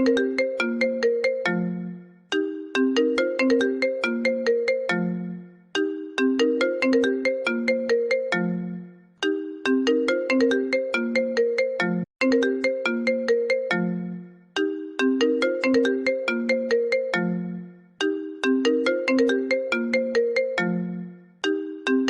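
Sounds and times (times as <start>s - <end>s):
phone ringtone melody: 0.0s - 22.0s.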